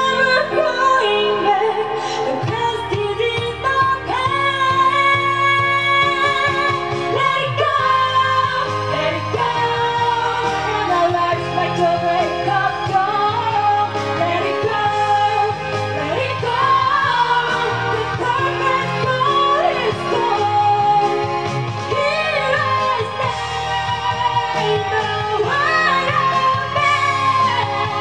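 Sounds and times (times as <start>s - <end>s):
pop accompaniment: 0.0s - 28.0s
women singing into microphones: 0.0s - 28.0s.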